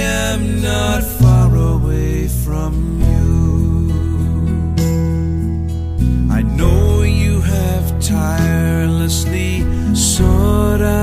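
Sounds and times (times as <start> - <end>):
slow worship song instrumental: 0.0 - 11.0
steady low bass: 0.0 - 11.0.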